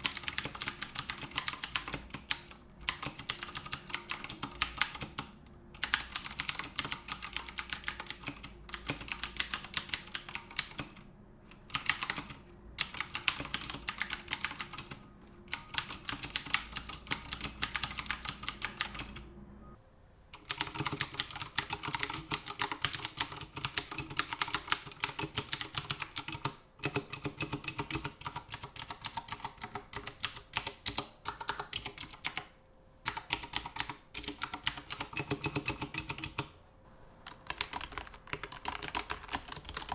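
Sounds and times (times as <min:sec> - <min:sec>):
mechanical keyboard clicking: 0:00.0 - 0:11.0, 0:11.6 - 0:19.3, 0:20.4 - 0:32.5, 0:33.1 - 0:36.5, 0:37.3 - 0:39.9.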